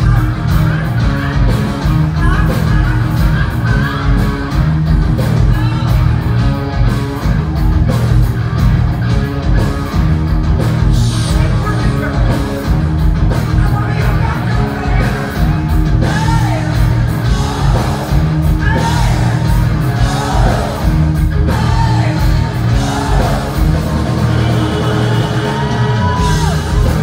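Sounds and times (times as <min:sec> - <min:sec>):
drums: 0:00.0 - 0:27.0
electric guitar: 0:00.0 - 0:27.0
live rock band playing: 0:00.0 - 0:27.0.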